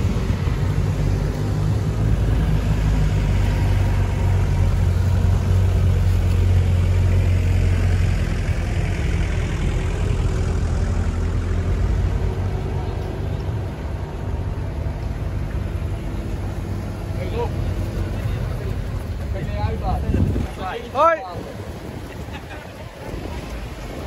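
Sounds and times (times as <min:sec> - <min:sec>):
off-road engines running: 0:00.0 - 0:24.0.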